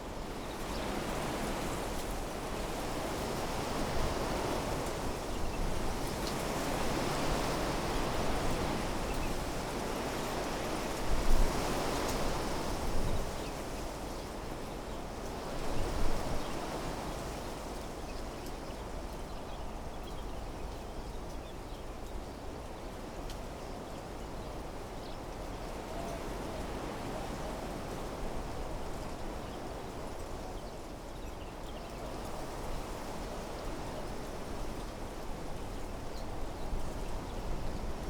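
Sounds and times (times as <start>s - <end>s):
wind rustling shrubs: 0.0s - 38.0s.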